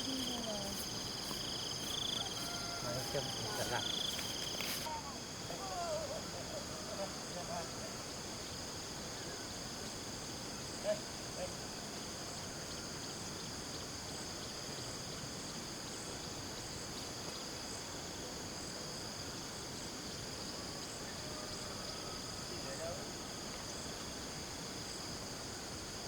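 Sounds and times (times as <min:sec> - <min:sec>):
background hiss: 0:00.0 - 0:26.0
shrill insect chorus: 0:00.0 - 0:26.0.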